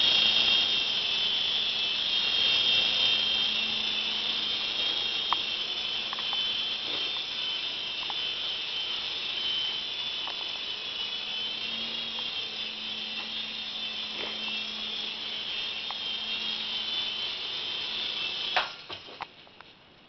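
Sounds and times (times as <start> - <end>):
toy helicopter whine: 0.0 - 19.8.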